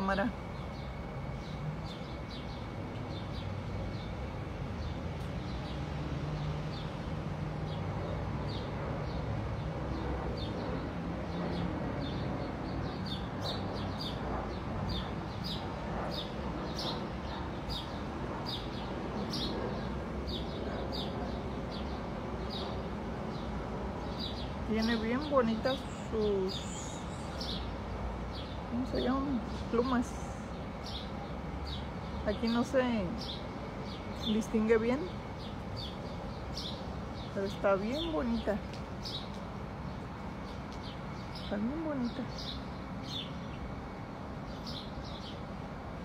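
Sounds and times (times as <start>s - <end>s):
bird chirping: 0.0s - 43.7s, 44.4s - 45.5s.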